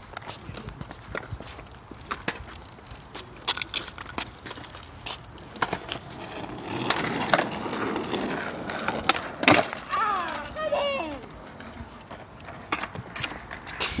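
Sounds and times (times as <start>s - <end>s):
skateboard wheels rolling on concrete: 0.0s - 14.0s.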